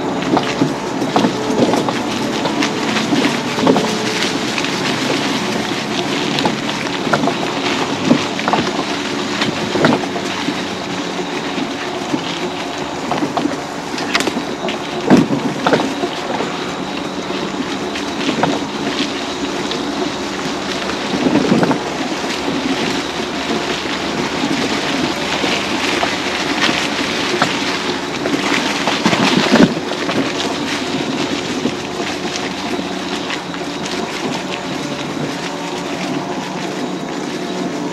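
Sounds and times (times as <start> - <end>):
electric motor whine: 0.0 - 37.9
tyres rolling: 0.0 - 37.9.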